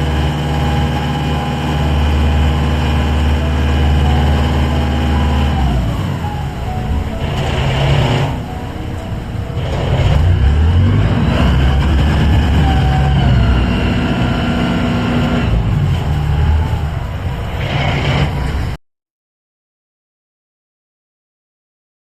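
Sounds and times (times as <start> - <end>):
heavy engine rumbling: 0.0 - 18.8.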